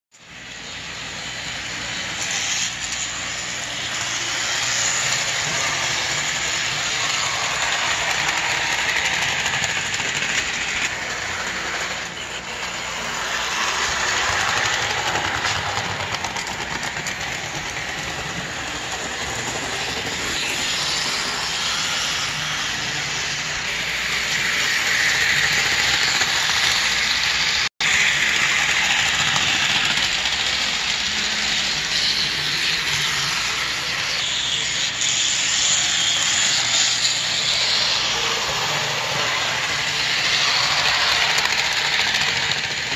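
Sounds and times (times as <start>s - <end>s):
model train whirring on rails: 0.1s - 42.9s.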